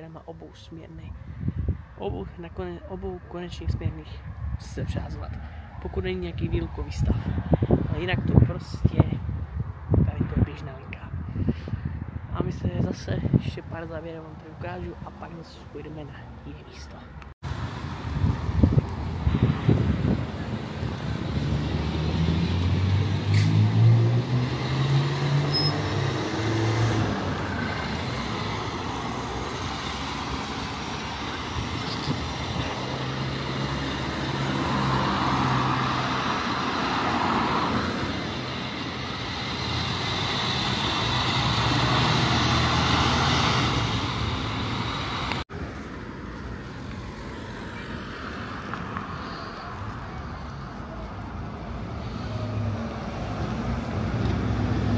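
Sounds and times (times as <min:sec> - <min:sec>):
vehicles passing and pulling away: 0:00.0 - 0:54.9.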